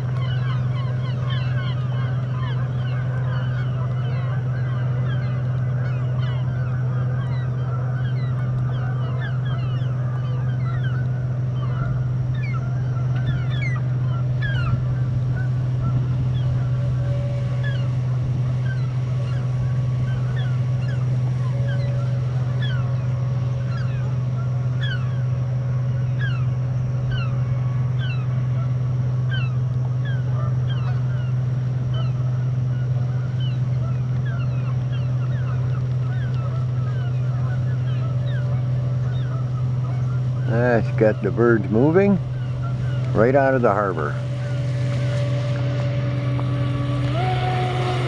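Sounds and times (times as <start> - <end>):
low motor drone: 0.0 - 48.0
short falling bird calls: 0.1 - 48.0.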